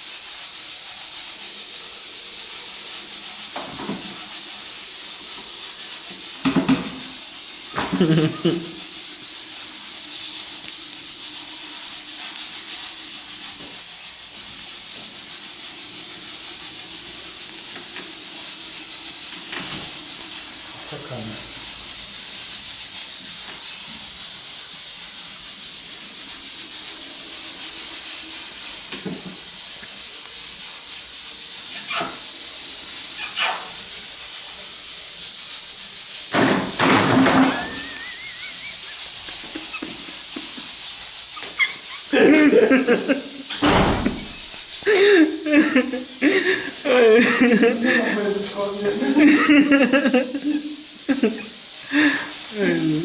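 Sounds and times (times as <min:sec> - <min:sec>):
background hiss: 0:00.0 - 0:53.0.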